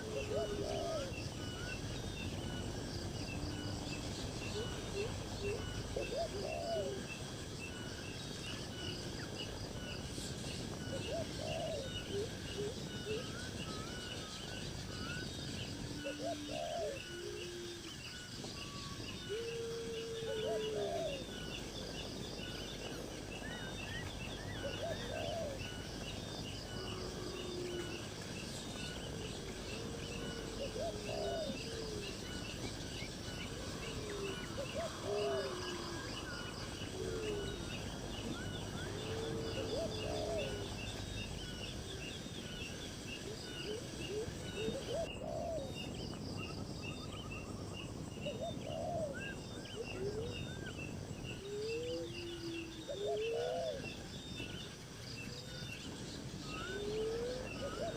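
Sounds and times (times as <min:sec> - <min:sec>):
background hiss: 0:00.0 - 0:57.9
birds giving low calls: 0:00.0 - 0:57.9
insects chirring: 0:00.0 - 0:57.9.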